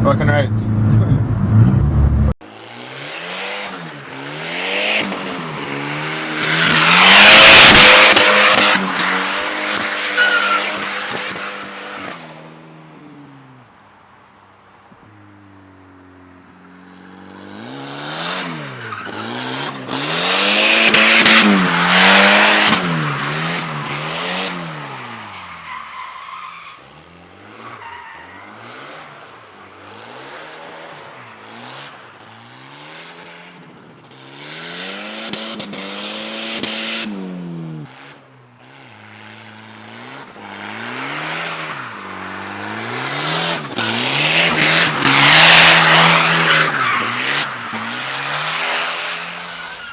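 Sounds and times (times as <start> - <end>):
car engine revving: 0.0 - 14.0, 14.8 - 49.9
tires squealing and skidding: 0.0 - 49.9.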